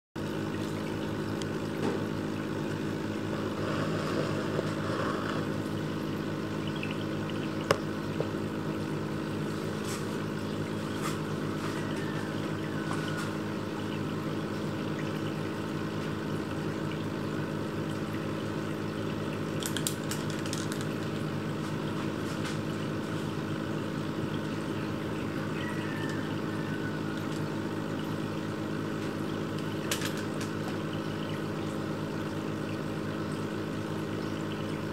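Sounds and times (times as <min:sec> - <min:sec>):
filter pump motor hum: 0:00.2 - 0:34.9
trickling pouring water: 0:00.2 - 0:34.9.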